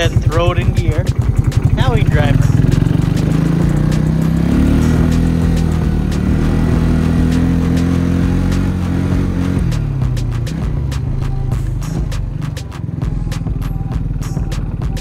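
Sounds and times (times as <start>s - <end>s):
quad bike engine accelerating: 0.0s - 15.0s.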